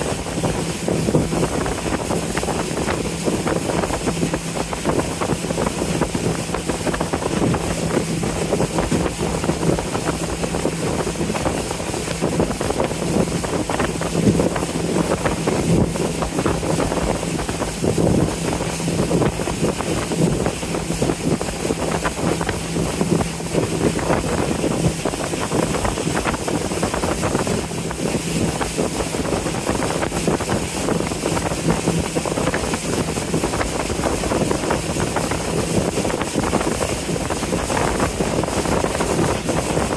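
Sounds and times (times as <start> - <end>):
boat engine humming: 0.0 - 39.9
wind noise on microphone: 0.0 - 39.9.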